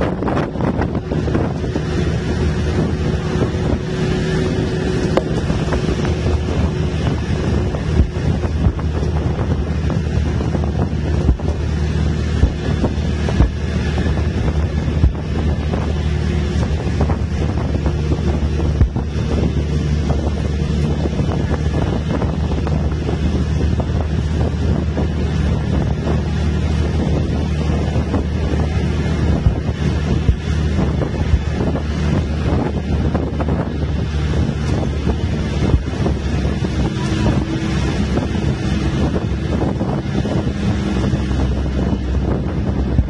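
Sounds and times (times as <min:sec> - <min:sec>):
bus engine drone: 0:00.0 - 0:43.0
wind buffeting microphone: 0:00.0 - 0:43.0.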